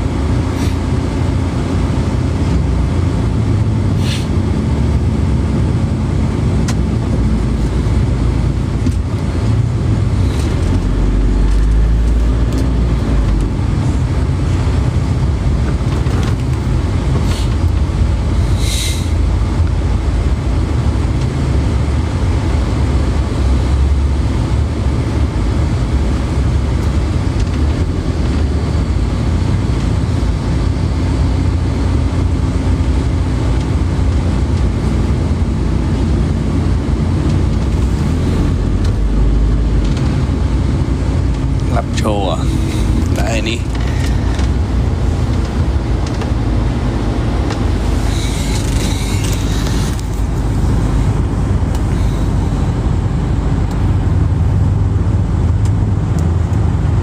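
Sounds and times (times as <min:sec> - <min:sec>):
moving vehicle rumble: 0:00.0 - 0:57.0.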